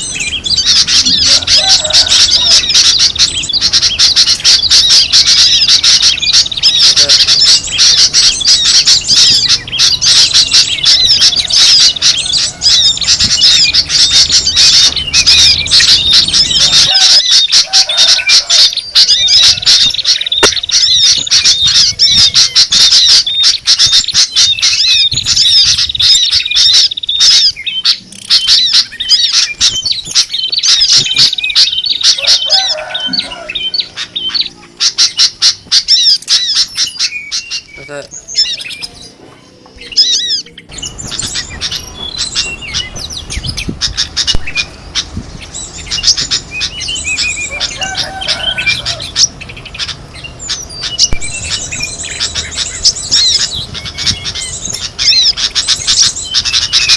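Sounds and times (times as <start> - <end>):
songbirds chirping and squawking: 0.0 - 56.9.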